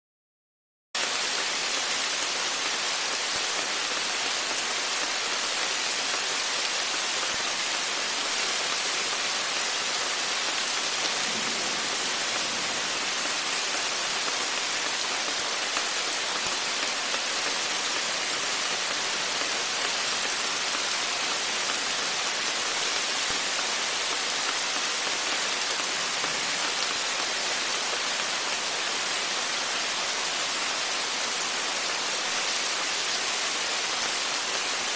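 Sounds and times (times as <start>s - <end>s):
steady rain falling: 1.0s - 34.9s.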